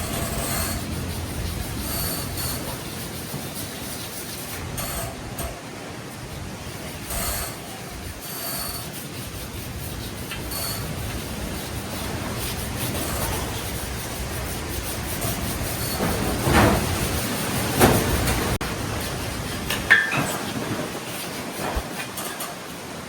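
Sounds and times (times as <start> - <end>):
mechanical rumbling: 0.0 - 22.1.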